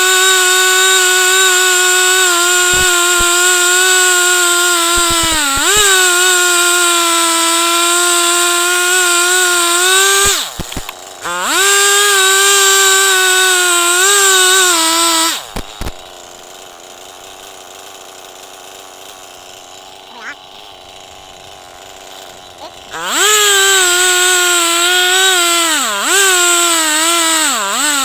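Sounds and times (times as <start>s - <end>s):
chainsaw ripping a log: 0.0s - 28.0s.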